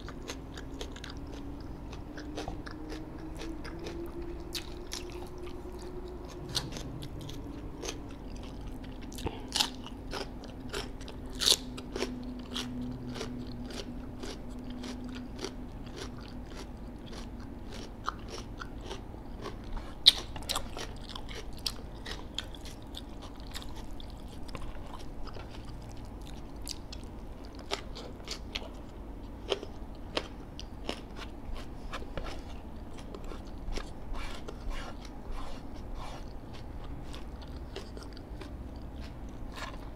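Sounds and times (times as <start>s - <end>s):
person chewing crispy food: 0.0s - 39.9s.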